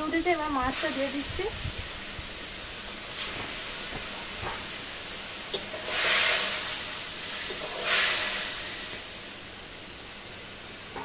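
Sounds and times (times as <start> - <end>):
boiling gravy hissing: 0.0 - 11.0.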